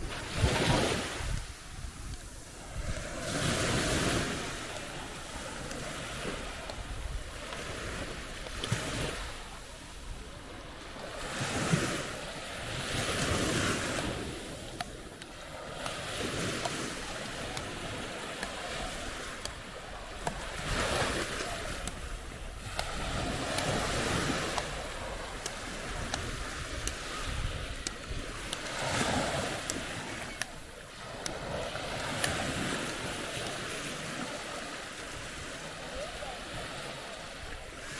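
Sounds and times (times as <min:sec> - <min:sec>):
waves breaking on shore: 0:00.0 - 0:37.9.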